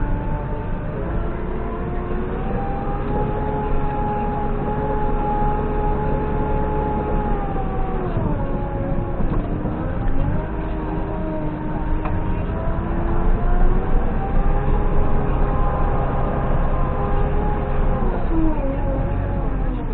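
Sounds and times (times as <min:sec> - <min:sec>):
backhoe loader engine whine and rumble: 0:00.0 - 0:19.9.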